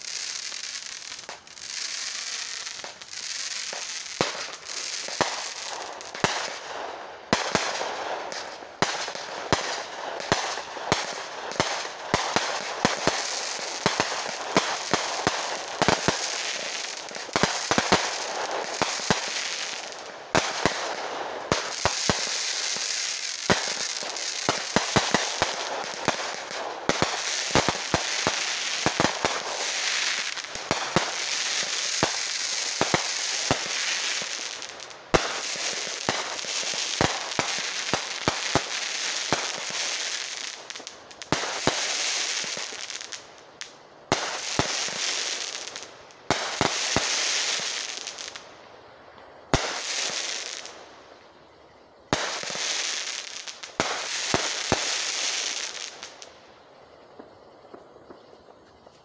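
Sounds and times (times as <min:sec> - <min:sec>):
firework bangs: 0:00.0 - 0:48.4, 0:49.5 - 0:50.9, 0:51.6 - 0:56.3, 0:57.0 - 0:59.0
hiss of burning fireworks: 0:00.0 - 0:59.0.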